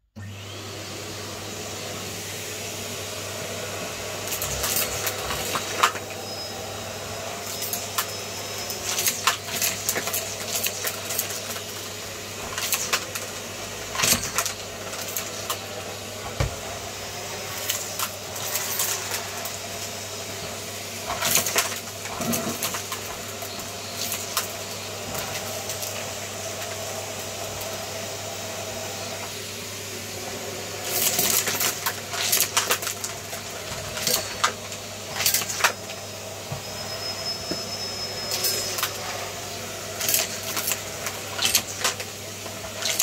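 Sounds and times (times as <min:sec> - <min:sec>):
vacuum cleaner motor humming: 0:00.1 - 0:43.0.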